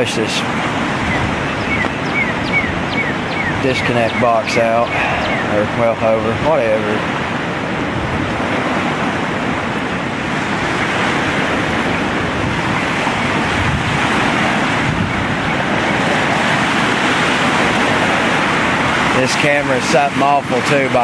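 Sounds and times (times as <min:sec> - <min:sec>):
river rushing: 0:00.0 - 0:21.0.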